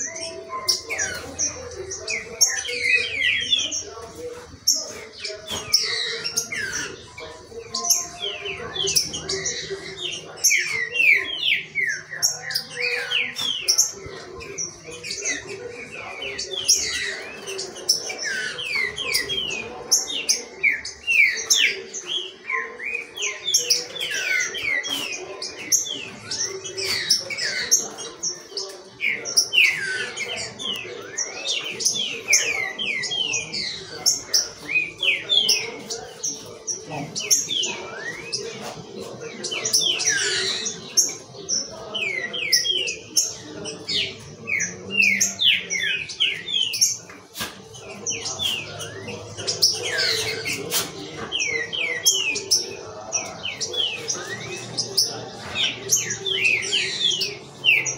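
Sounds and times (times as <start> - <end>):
birds singing chirps and whistles: 0.0 - 57.9.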